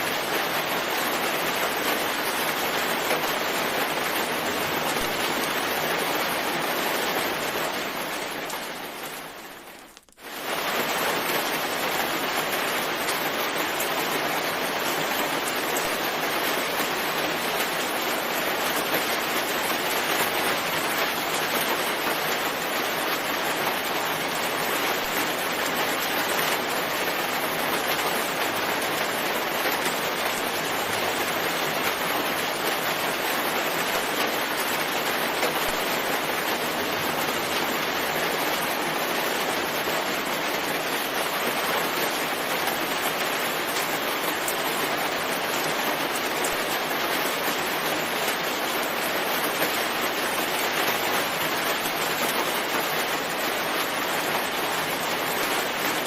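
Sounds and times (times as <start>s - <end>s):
dense rainfall: 0.0s - 56.0s.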